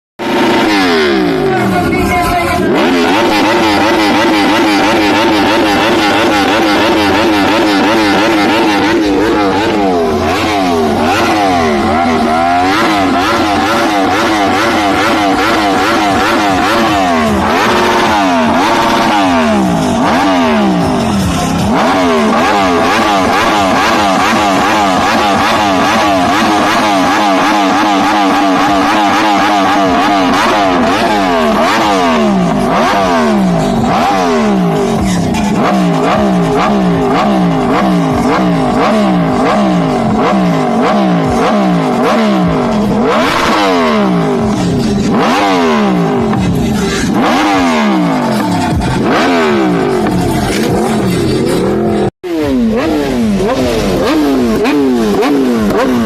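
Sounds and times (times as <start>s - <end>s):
motorcycles revving: 0.2s - 56.0s.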